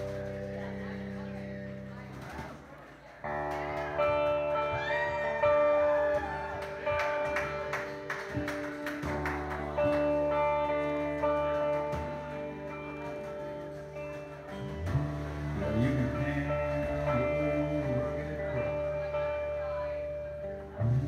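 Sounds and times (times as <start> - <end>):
bass line: 0.0 - 21.0
electric guitar long notes: 3.2 - 21.0.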